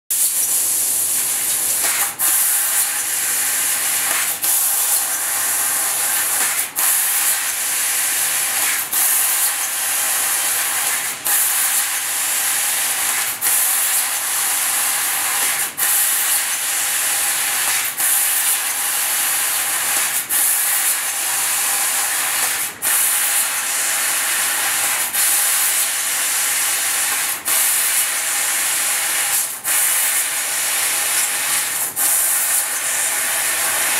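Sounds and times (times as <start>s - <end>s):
laser cutter gas hiss: 0.1s - 33.9s.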